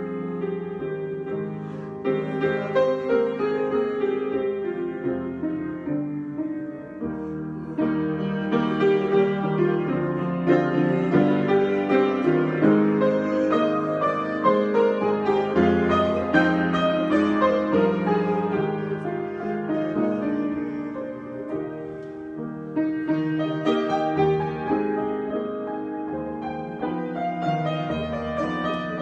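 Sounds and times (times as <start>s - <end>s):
piano improvisation: 0.0s - 29.0s.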